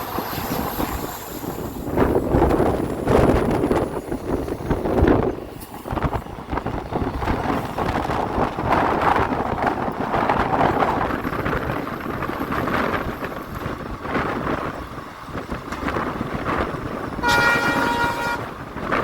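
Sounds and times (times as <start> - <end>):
passenger train running: 0.0 - 19.0
wind buffeting microphone: 0.0 - 19.0.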